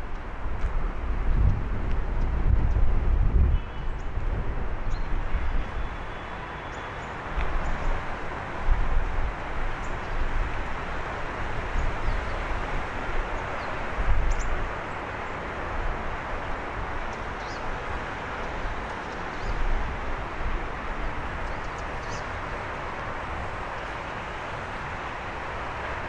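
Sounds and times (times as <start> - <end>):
distant city traffic hum: 0.0 - 26.0.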